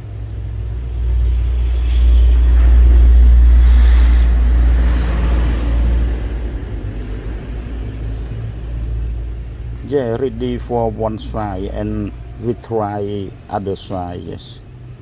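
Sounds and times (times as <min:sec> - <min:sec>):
loud low rumble: 0:00.6 - 0:14.4.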